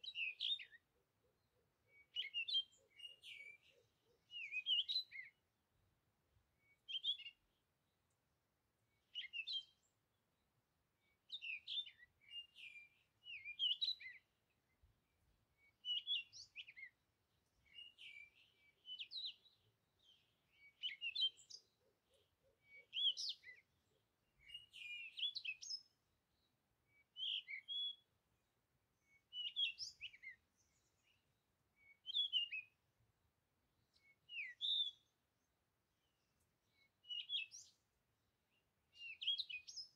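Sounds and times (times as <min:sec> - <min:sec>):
bird chirping: 0:00.0 - 0:05.4, 0:06.6 - 0:08.2, 0:09.0 - 0:14.9, 0:15.6 - 0:32.8, 0:33.8 - 0:39.9.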